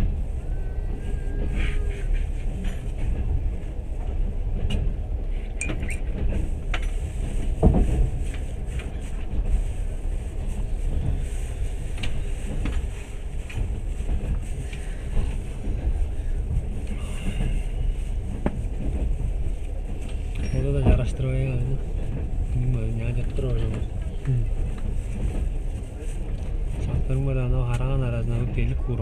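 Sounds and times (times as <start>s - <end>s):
clicks and knocks of train: 0.0s - 29.0s
train rumbling on track: 0.0s - 29.0s.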